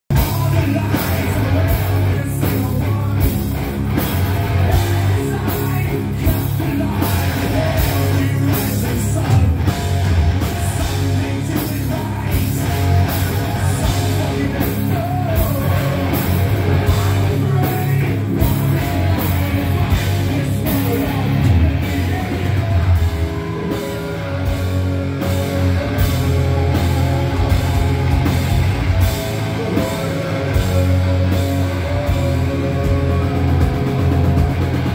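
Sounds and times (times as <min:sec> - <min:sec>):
heavy rock band playing: 0:00.1 - 0:34.9
person singing: 0:00.1 - 0:34.9.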